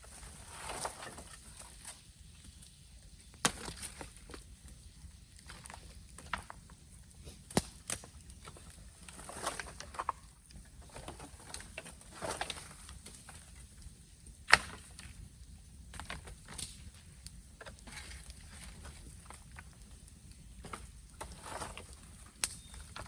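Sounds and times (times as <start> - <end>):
bamboo crackling and popping: 0.0 - 23.0
bonfire flames hissing: 0.0 - 23.0.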